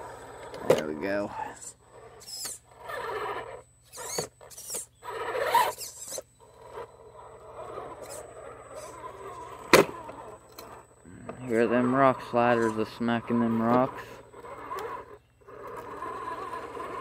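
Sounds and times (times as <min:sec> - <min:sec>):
rc motor and gears whining: 0:00.0 - 0:17.0.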